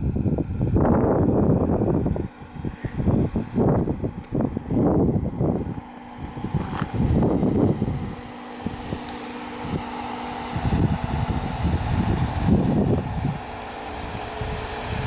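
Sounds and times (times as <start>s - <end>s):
engine running at low speed: 0.0s - 15.0s
wind buffeting microphone: 0.0s - 15.0s.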